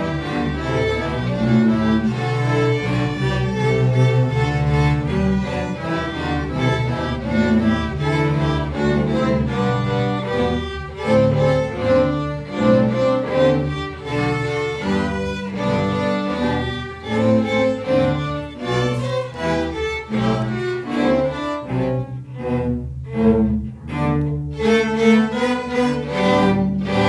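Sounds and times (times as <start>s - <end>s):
string orchestra playing: 0.0s - 27.0s.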